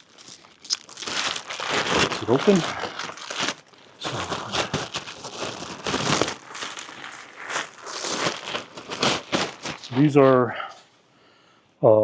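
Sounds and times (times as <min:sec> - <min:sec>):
packaging crinkling and tearing: 0:00.0 - 0:10.3.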